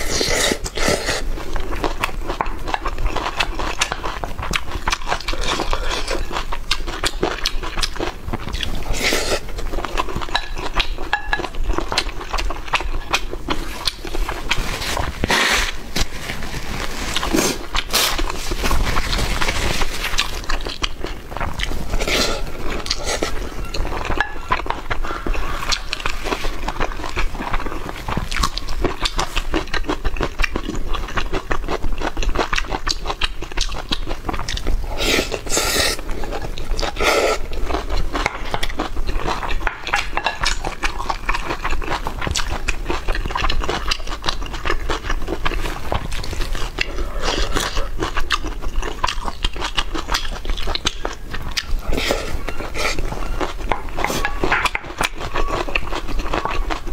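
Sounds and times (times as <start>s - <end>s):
chewing food: 0.0s - 56.9s.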